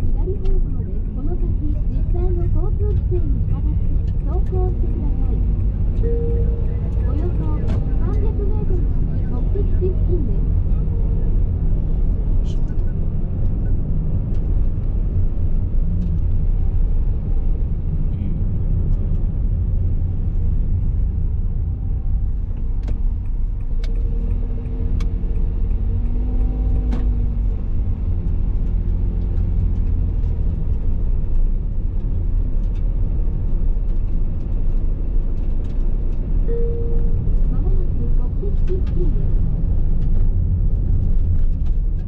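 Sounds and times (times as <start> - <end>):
car driving rumble: 0.0 - 42.0
pitched hum: 0.0 - 42.0.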